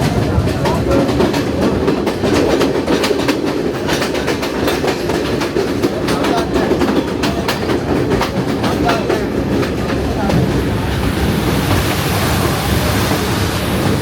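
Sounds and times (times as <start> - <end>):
train carriage rumbling: 0.0 - 14.0.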